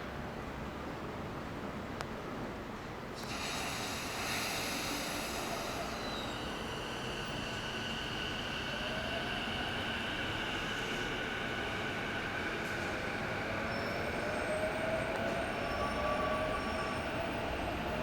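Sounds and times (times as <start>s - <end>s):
electric train running hiss: 3.2s - 18.0s
high whining train tones: 3.2s - 18.0s.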